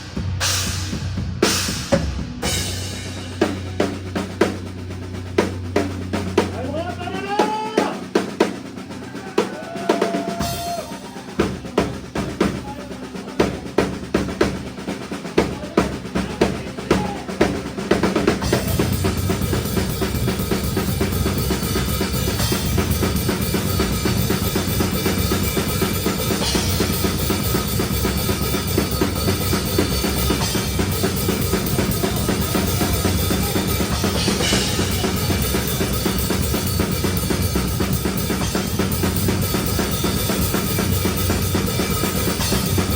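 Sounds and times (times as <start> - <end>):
heavy drum hits: 0.0 - 42.9
metal band playing live: 0.0 - 42.9.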